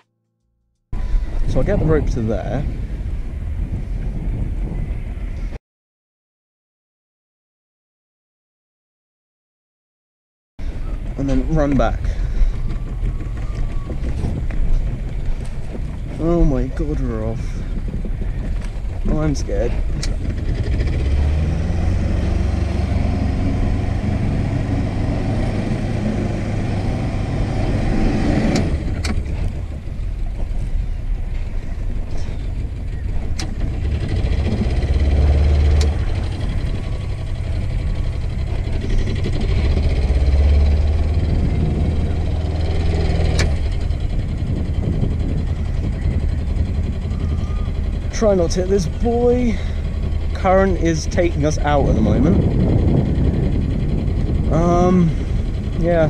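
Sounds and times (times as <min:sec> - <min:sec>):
boat diesel engine rumbling: 0:01.0 - 0:04.9, 0:10.6 - 0:56.0.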